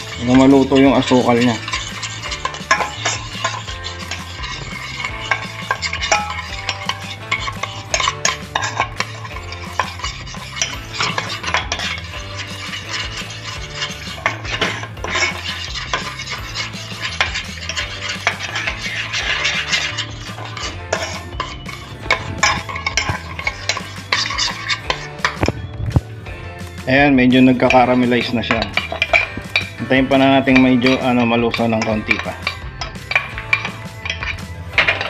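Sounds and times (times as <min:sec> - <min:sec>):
metal spoon scraping saucepan: 0:00.0 - 0:35.0.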